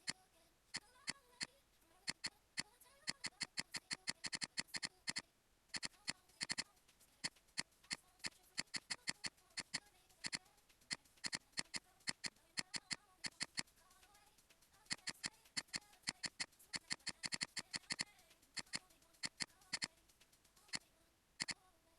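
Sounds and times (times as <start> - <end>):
computer mouse clicking: 0.0 - 21.6.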